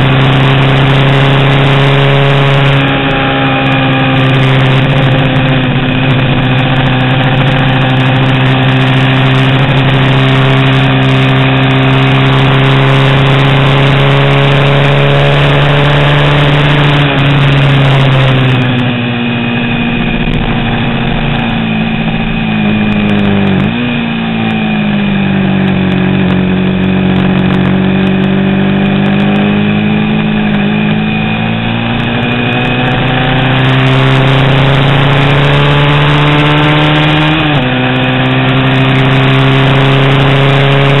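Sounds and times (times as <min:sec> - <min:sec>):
racing motorcycle engine revving: 0:00.0 - 0:41.0.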